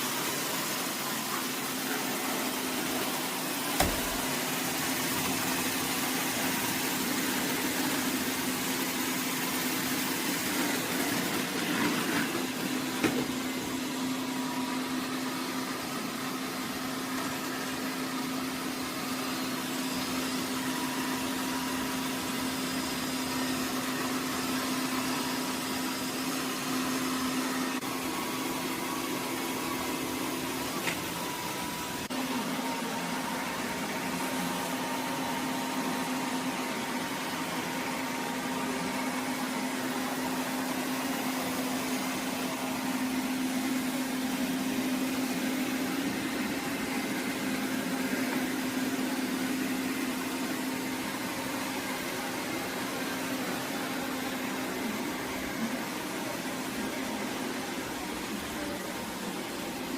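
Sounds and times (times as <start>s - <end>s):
robot vacuum motor and suction: 0.1s - 59.9s.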